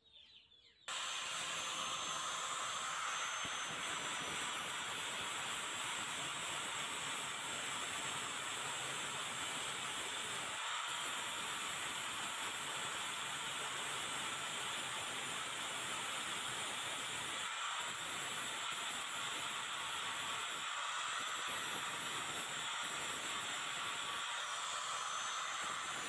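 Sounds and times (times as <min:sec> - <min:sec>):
angle grinder grinding metal: 0:00.9 - 0:26.0.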